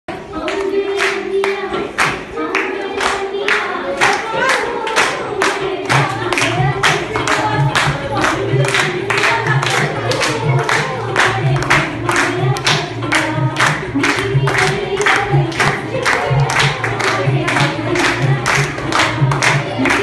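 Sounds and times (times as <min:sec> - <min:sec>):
women singing together: 0:00.1 - 0:20.0
hands clapping in rhythm: 0:00.4 - 0:20.0.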